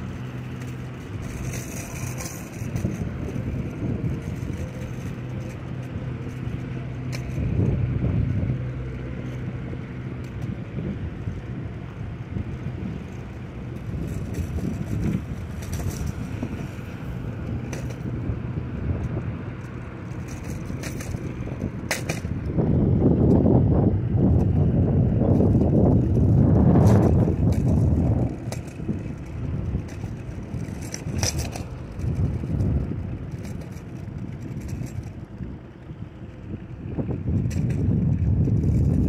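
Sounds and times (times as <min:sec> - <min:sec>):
car engine and tyre noise: 0:00.0 - 0:39.0
wind on microphone: 0:00.0 - 0:39.0.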